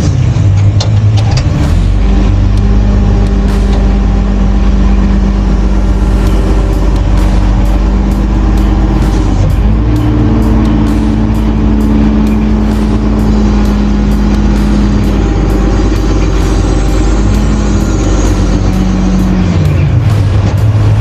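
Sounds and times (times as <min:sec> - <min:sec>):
crane diesel engine running: 0:00.0 - 0:21.0.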